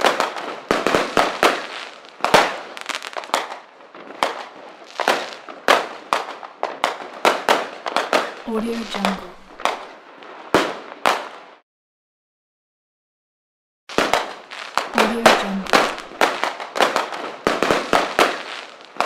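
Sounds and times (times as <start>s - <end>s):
fireworks crackling: 0.0s - 11.6s, 13.9s - 19.0s.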